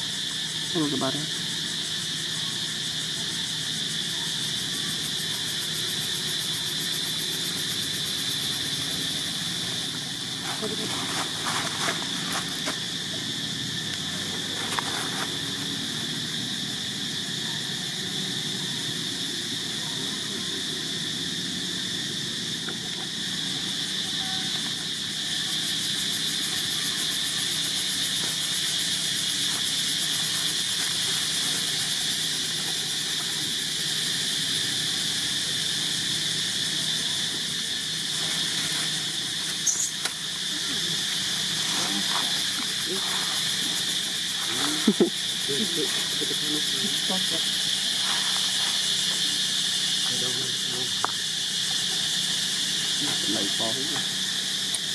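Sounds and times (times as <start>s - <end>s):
insect drone: 0.0s - 54.9s.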